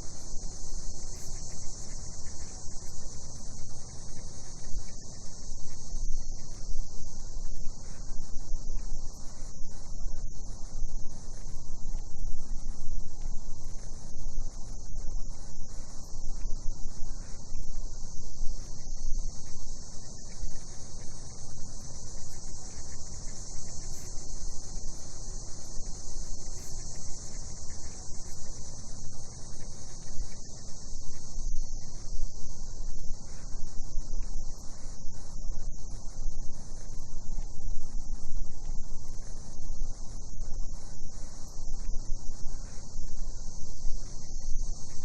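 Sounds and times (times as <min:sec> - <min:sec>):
cicadas droning: 0:00.0 - 0:45.0.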